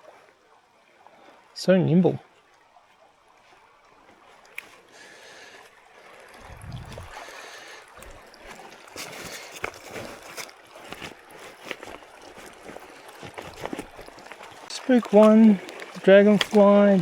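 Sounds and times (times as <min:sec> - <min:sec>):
creek water trickling and splashing: 0:00.0 - 0:17.0.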